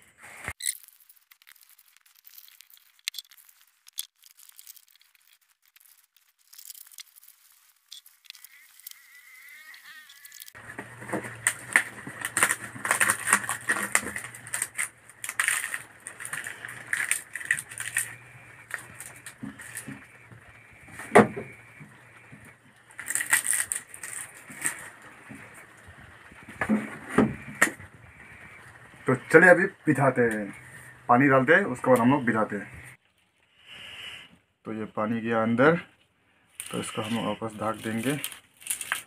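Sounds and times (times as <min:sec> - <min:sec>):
banana leaves rustling and tearing: 0:00.5 - 0:31.0, 0:36.6 - 0:39.0.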